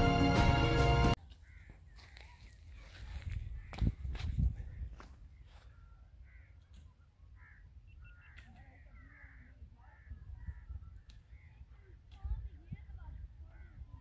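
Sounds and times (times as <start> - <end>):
faint birds calling: 1.2 - 14.0.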